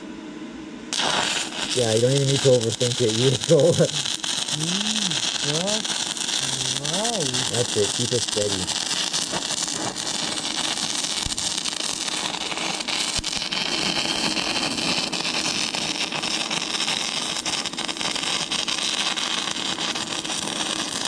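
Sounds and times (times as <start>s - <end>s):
welding arc crackling and hissing: 0.9s - 21.0s.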